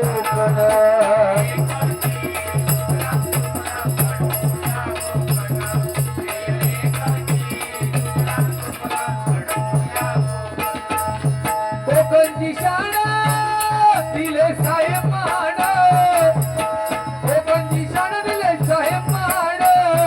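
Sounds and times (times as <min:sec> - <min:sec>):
drum beating quick rhythm: 0:00.0 - 0:20.0
jingling hand percussion: 0:00.0 - 0:20.0.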